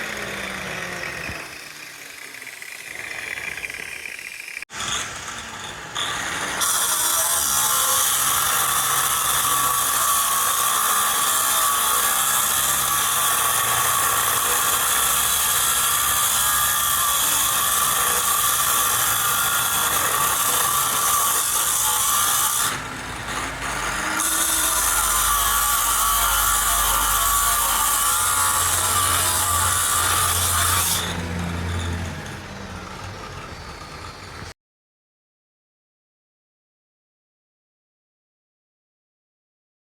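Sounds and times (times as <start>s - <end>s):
power tool whining: 0.0s - 34.5s.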